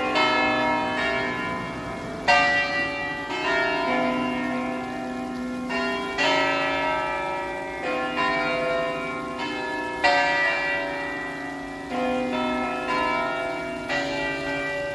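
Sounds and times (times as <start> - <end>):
church bells pealing: 0.0 - 14.9.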